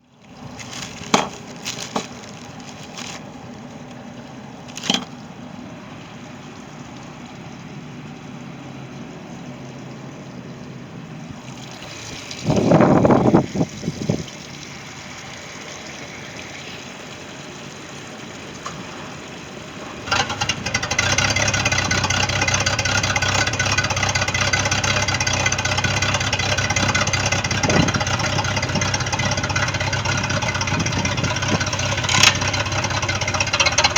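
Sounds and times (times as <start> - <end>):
boat engine idling: 0.0 - 33.9.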